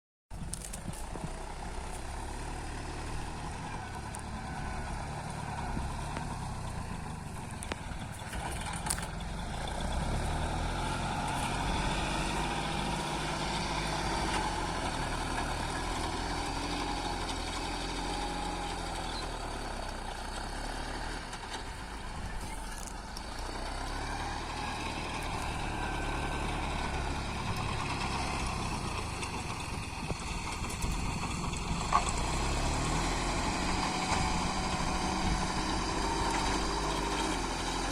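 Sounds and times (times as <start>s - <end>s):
tractor engine running: 0.3s - 37.9s.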